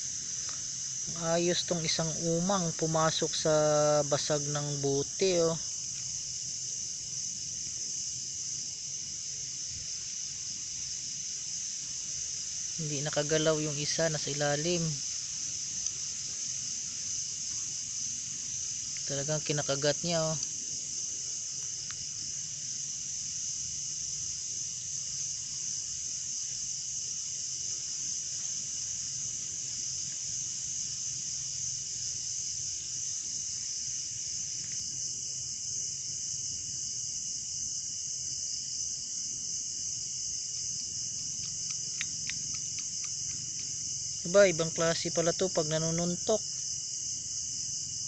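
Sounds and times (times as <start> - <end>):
crickets trilling: 0.0 - 48.0.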